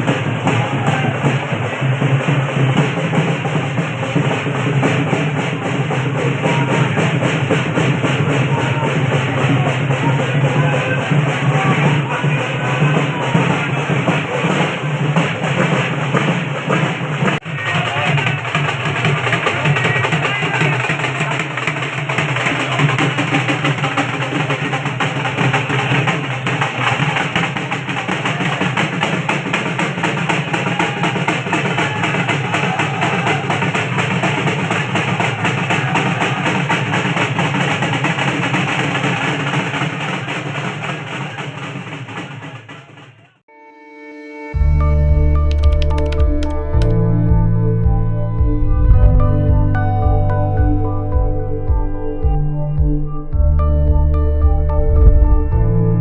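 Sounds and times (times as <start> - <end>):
drums beating fast: 0.0 - 43.4, 45.1 - 56.0.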